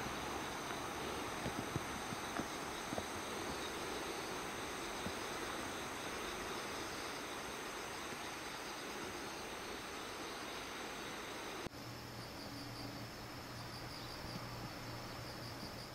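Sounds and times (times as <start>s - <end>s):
insects chorus: 0.0s - 15.9s.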